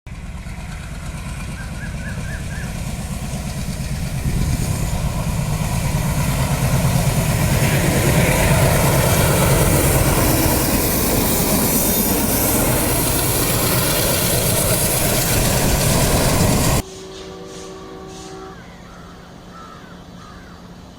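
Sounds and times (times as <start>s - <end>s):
train wheel clatter: 0.1s - 18.4s
diesel locomotive engine rumble: 0.1s - 20.9s.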